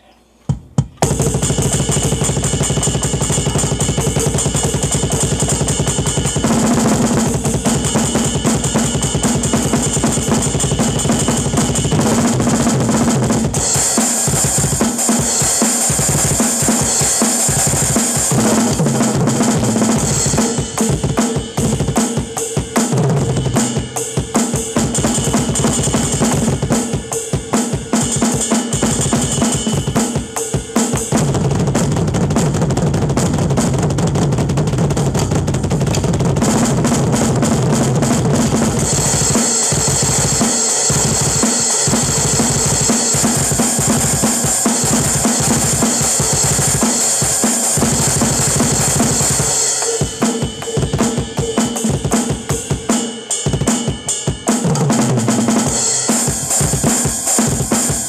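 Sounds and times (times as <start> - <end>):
drum kit solo: 0.0 - 58.0
cymbals washing: 1.0 - 31.1, 35.6 - 58.0.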